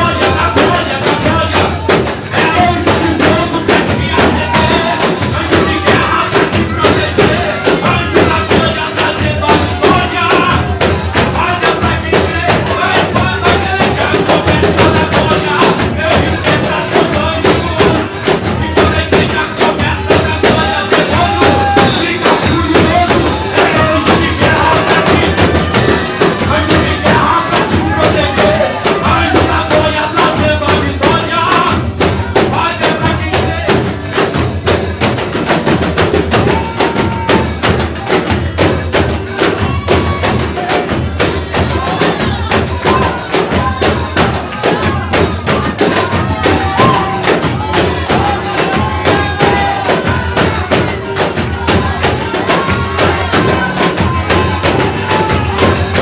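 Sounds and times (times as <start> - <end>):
drums: 0.0 - 56.0
man singing into a microphone: 0.0 - 56.0
tambourines shaken and struck: 0.0 - 56.0.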